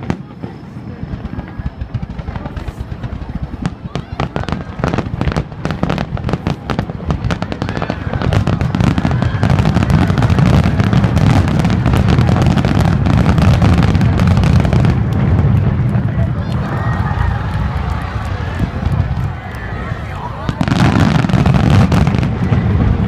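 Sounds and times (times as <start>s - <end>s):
fireworks crackling and booming: 0.0s - 23.0s.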